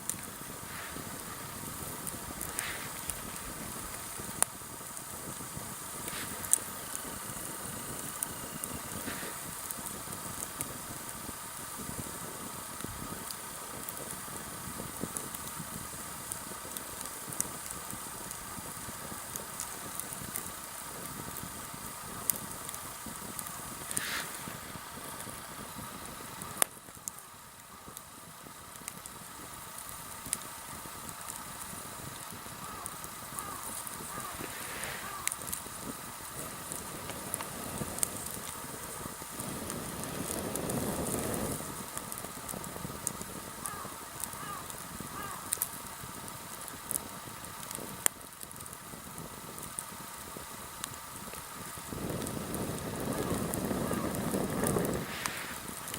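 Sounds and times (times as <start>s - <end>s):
campfire crackling and popping: 0.0s - 55.9s
fire hissing: 0.0s - 55.9s.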